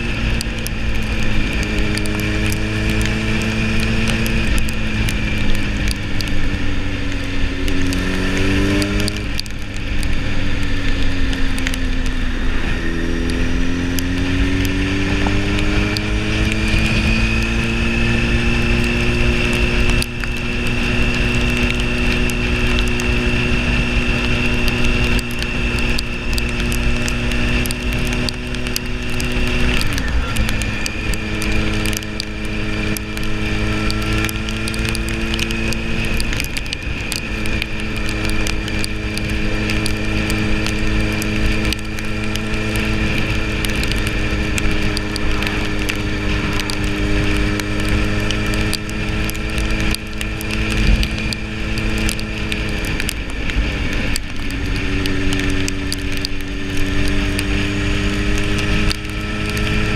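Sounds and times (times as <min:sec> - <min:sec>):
motorcycle engine running: 0:00.0 - 0:59.9
wind rumble: 0:00.0 - 0:59.9.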